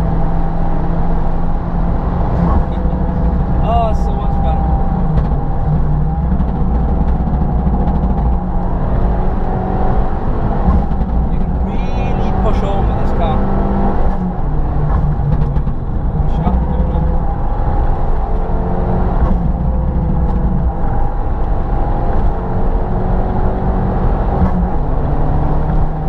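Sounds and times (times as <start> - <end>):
car engine from inside cabin: 0.0 - 26.0
road rumble: 0.0 - 26.0.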